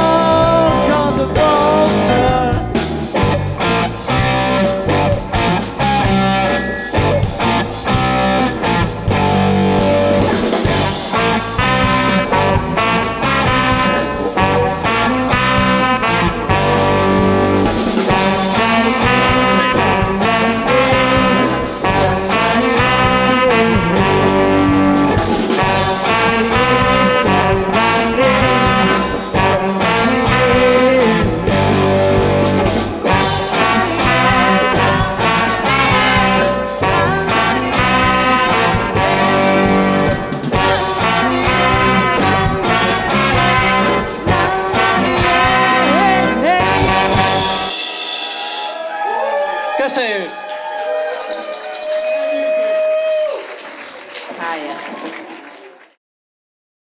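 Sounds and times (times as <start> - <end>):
alto saxophone: 0.0 - 47.8
bass guitar: 0.0 - 48.1
keyboard: 0.0 - 48.7
electric guitar: 0.0 - 49.7
drum kit: 0.0 - 54.2.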